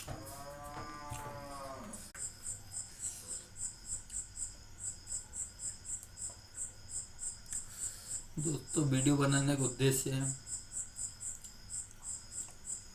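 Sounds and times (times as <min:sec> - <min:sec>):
high insect chirp: 0:00.0 - 0:12.9.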